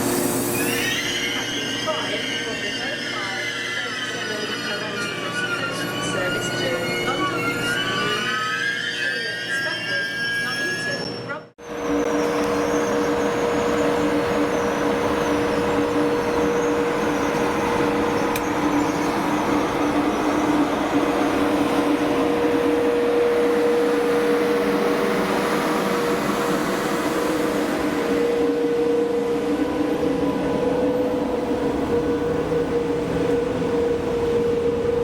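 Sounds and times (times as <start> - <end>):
sleeper train rumbling: 0.0 - 35.0.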